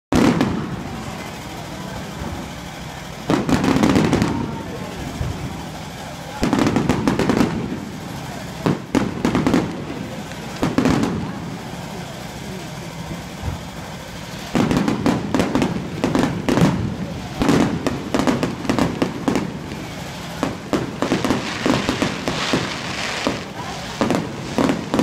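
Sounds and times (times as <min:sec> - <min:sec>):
fireworks bangs and crackles: 0:00.1 - 0:25.0.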